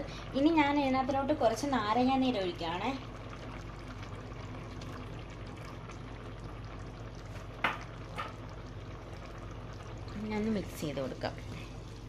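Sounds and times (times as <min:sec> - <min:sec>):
pot bubbling: 0:00.0 - 0:12.0.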